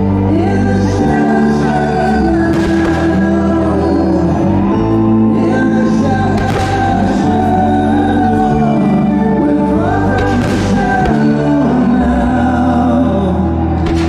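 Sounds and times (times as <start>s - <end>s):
singing over sustained chords: 0.0s - 14.0s.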